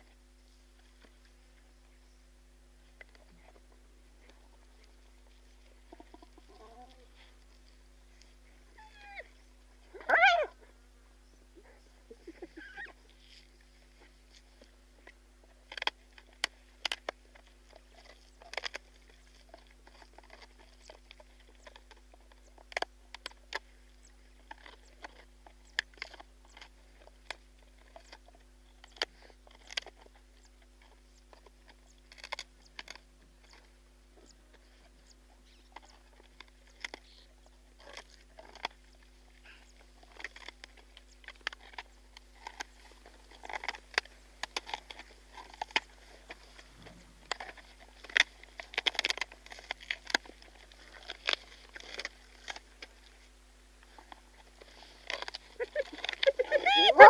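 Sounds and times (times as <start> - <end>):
hyena crunching bones: 2.8 - 10.6, 11.6 - 57.0.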